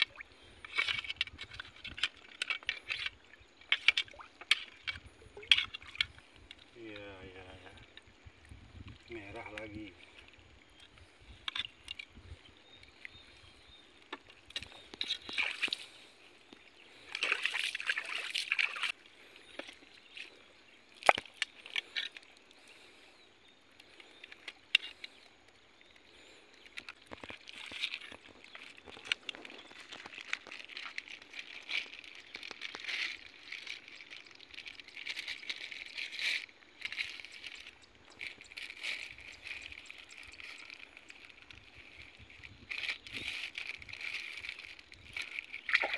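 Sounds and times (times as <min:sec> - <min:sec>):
muddy water sloshing and splashing: 0:00.0 - 0:45.9.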